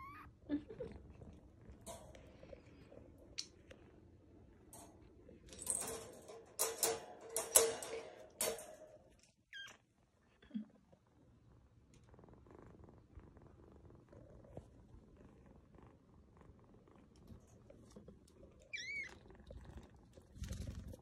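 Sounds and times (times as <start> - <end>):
kitten purring: 0.0 - 5.5, 9.5 - 21.0.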